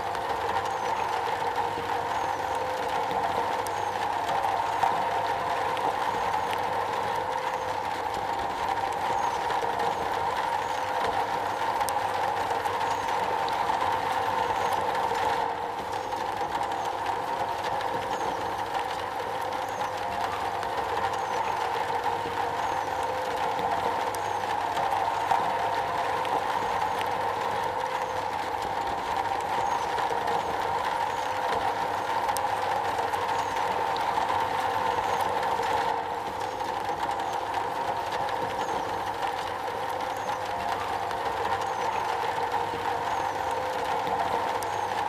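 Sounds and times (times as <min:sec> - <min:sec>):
rain drumming on a metal roof: 0:00.0 - 0:45.0.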